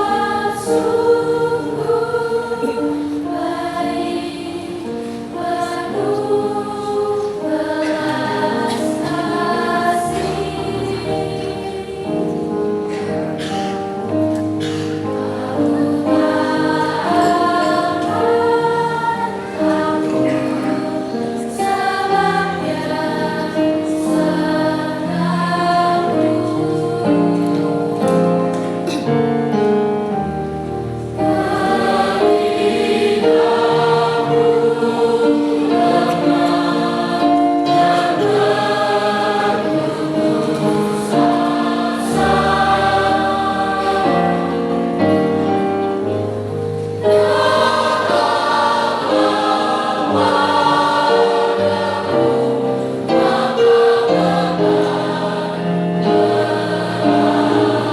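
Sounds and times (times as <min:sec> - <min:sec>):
choir singing in parts: 0:00.0 - 0:57.9.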